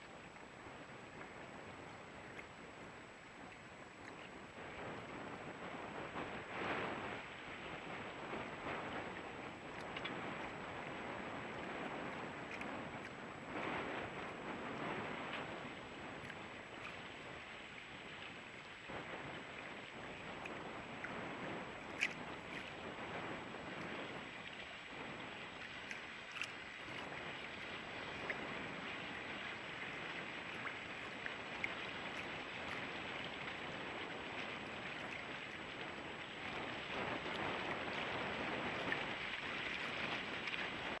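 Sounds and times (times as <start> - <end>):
wind: 0.0 - 41.0
water washing: 2.0 - 41.0.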